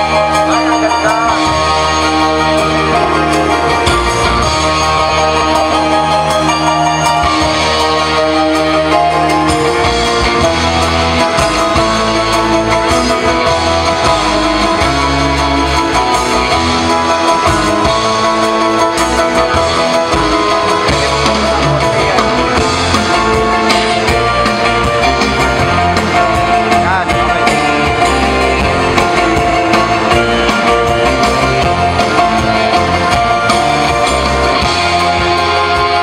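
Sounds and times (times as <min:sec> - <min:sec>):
loud music with guitar and beat: 0:00.0 - 0:36.0.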